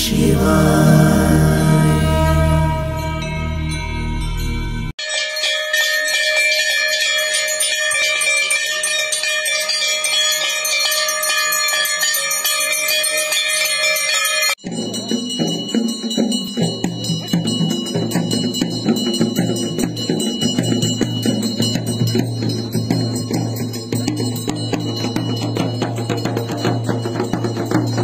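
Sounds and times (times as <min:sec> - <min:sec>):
temple bells ringing rapidly: 0:00.0 - 0:28.0.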